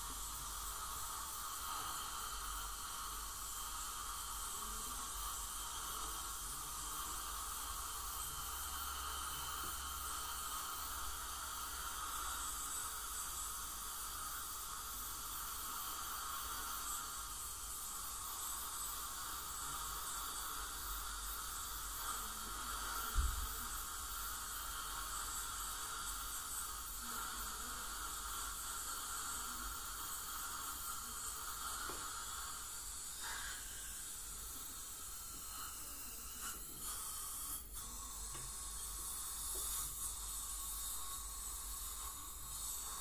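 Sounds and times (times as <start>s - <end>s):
dental cleaning equipment hissing: 0.0s - 43.0s.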